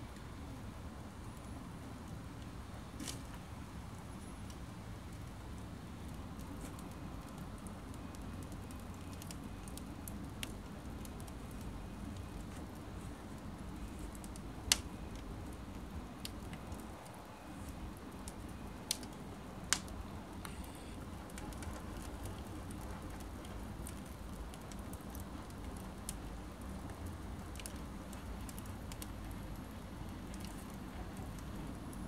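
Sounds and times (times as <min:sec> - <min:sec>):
fire rushing with crackles: 0:00.0 - 0:32.0
sharp pops of burning wood: 0:02.4 - 0:03.5, 0:06.0 - 0:32.0.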